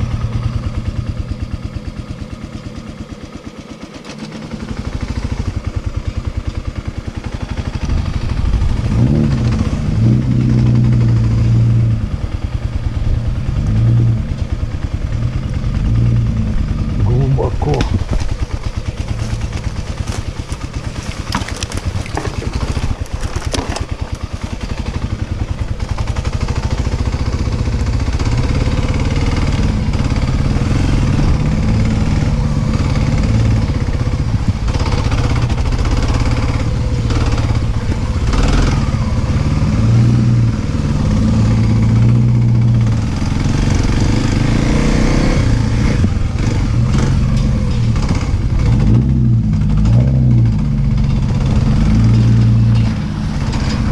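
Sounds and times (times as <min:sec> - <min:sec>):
dirt bike engine: 0:00.0 - 0:53.9.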